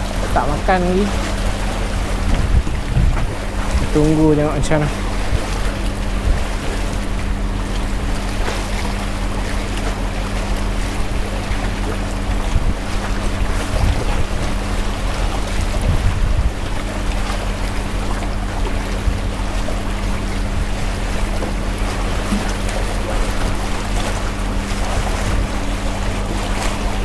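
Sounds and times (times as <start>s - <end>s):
wind buffeting microphone: 0.0s - 9.2s, 10.6s - 27.0s
steady low hum: 0.0s - 27.0s
water washing against pilings: 0.0s - 27.0s.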